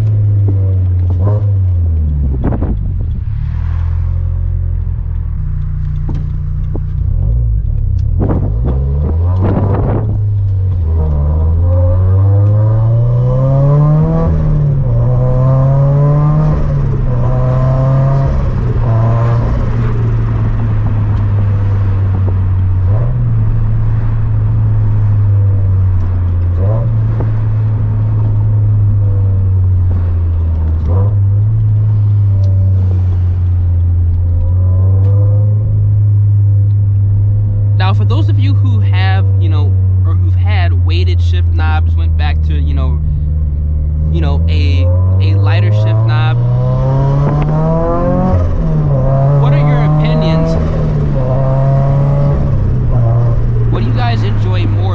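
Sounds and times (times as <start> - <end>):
car engine revving through gears: 0.0 - 54.9.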